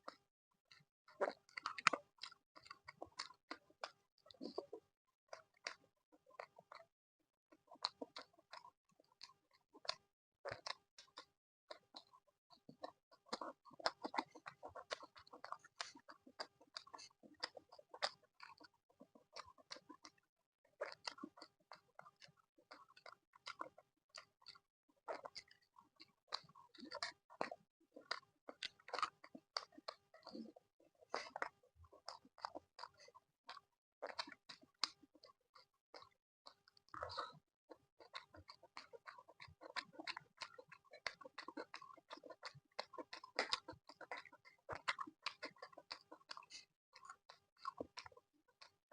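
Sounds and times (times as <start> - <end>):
chewing crunchy food: 0.0 - 6.9, 7.5 - 48.9.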